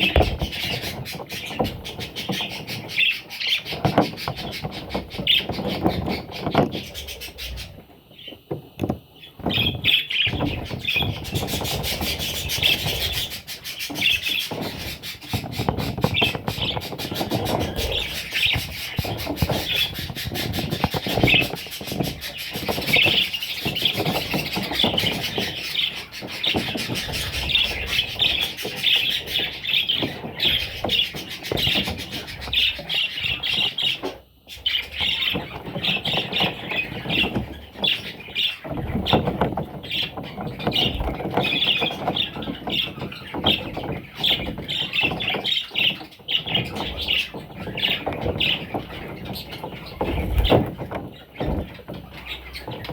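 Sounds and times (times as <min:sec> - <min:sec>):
budgerigars chattering and squawking: 0:00.0 - 0:52.9.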